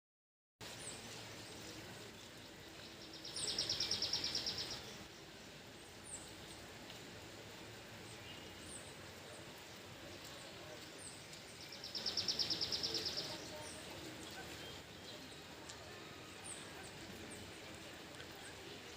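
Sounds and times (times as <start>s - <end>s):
background hiss: 0.6s - 18.9s
songbird trills: 0.7s - 6.6s, 8.1s - 17.6s.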